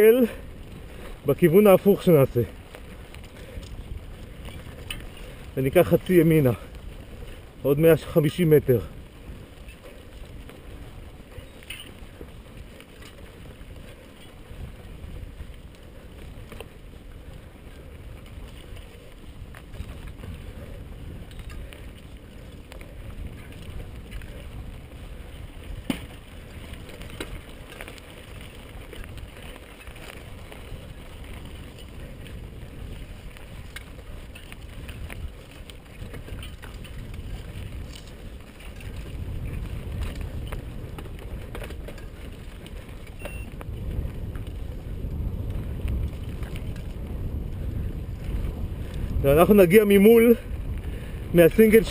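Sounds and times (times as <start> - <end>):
bike rattling: 0.0 - 51.9
bike tyres rolling on gravel: 0.0 - 51.9.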